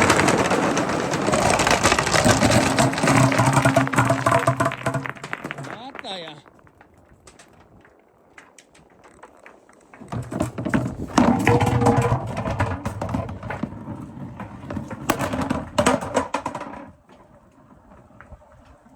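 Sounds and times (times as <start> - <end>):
marbles rolling down wooden run: 0.0 - 17.2.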